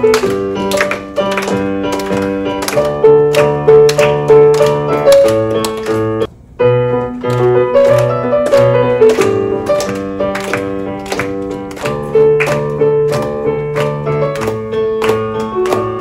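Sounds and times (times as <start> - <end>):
electronic keyboard piano chords: 0.0 - 16.0.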